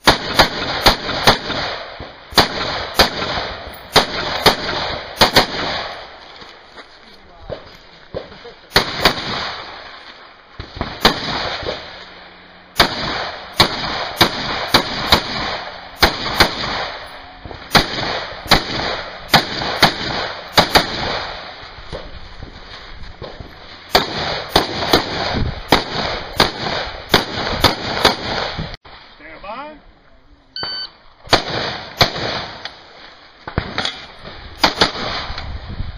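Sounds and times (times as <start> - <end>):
rifle shots: 0.0 - 6.2, 7.5 - 28.7, 30.6 - 35.5.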